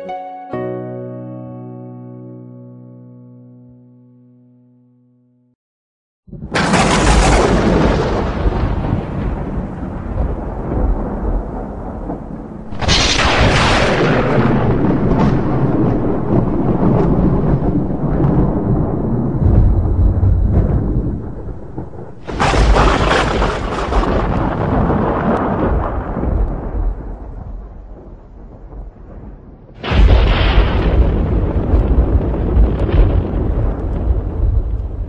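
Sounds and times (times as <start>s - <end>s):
thunder rumbling and cracking: 6.3s - 35.0s.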